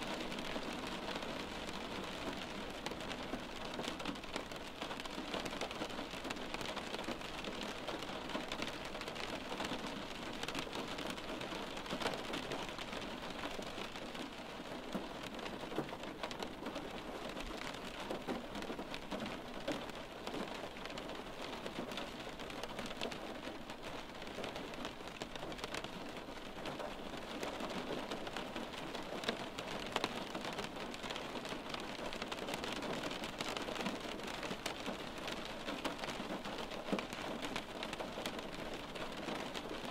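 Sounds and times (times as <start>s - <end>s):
rain on a window pane: 0.0s - 39.9s.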